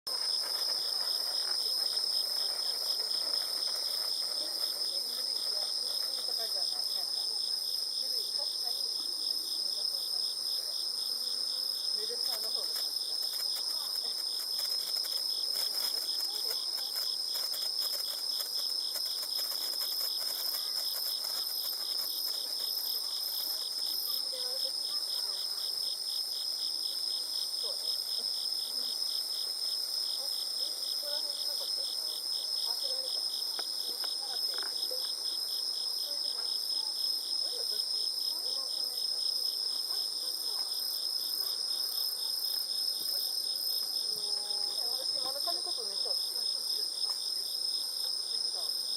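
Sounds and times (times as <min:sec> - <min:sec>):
crickets trilling: 0:00.1 - 0:48.9
insects pulsing chirp: 0:00.1 - 0:48.9.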